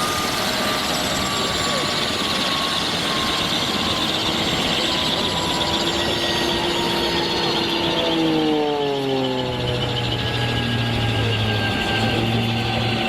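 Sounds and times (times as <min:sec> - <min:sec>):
helicopter turbine whine and rotor: 0:00.0 - 0:13.0.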